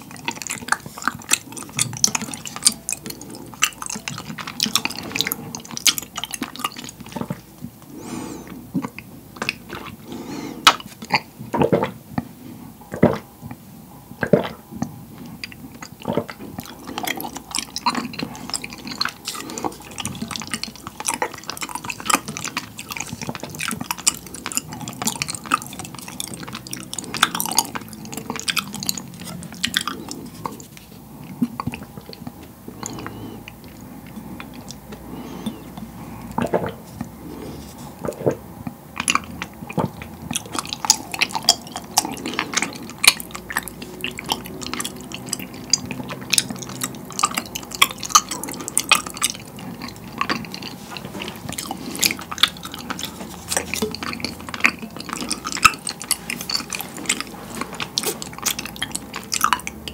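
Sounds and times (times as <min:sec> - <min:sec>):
wet chewing mouth clicks: 0:00.0 - 0:59.9.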